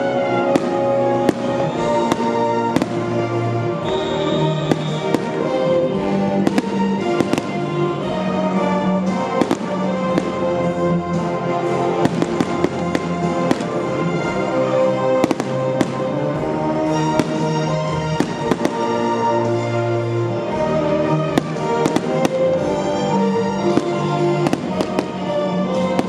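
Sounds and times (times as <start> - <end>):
fireworks bangs and crackles: 0.0 - 26.0
loud music with held notes: 0.0 - 26.0.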